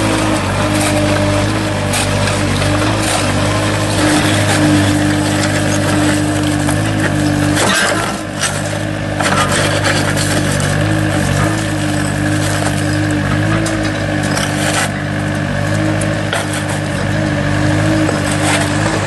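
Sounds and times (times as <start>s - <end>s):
knocks and scrapes: 0.0s - 15.1s, 15.7s - 19.0s
large engine running: 0.0s - 19.0s.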